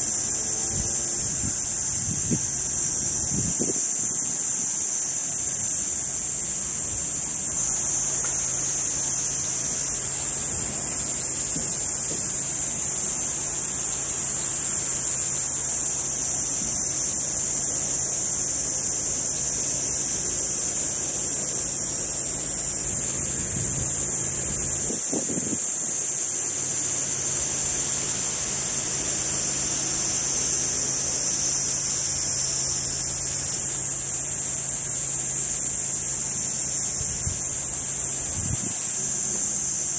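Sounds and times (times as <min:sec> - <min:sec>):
insects calling in chorus: 0:00.0 - 0:39.9.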